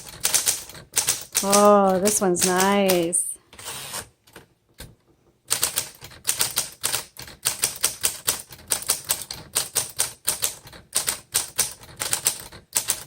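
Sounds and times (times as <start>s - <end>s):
manual typewriter typing: 0.0s - 3.8s, 5.5s - 13.0s.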